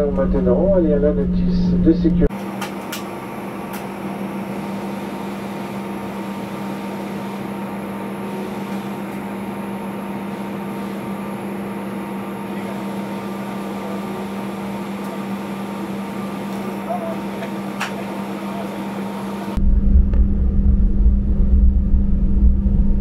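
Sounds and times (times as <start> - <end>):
constant low hum: 0.0 - 23.0
faint machinery whine: 0.0 - 23.0
ventilation air rushing: 0.0 - 23.0.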